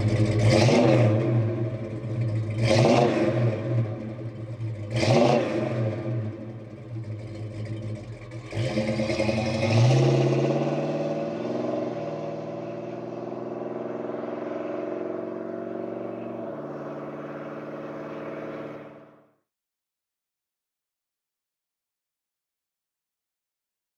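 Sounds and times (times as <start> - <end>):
car engine accelerating: 0.0 - 19.5.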